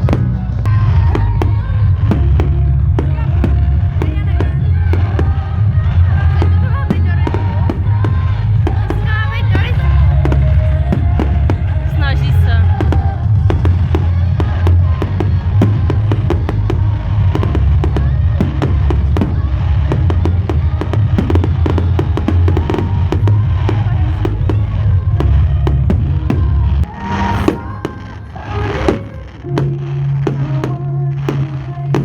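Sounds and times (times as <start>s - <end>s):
crowd voices: 0.0s - 32.0s
fireworks bangs and crackles: 0.0s - 32.0s
heavy low rumble: 0.0s - 32.0s.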